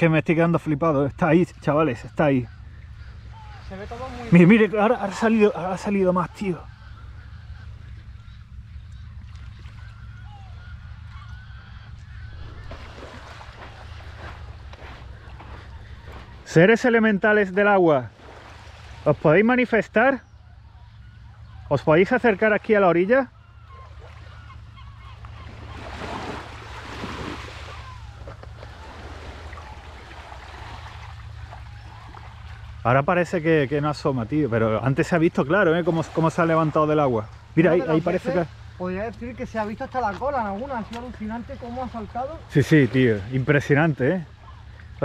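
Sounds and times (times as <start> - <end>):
gulls calling: 0.0 - 45.0
sea waves washing ashore: 0.0 - 45.0
low rumble: 0.8 - 42.5.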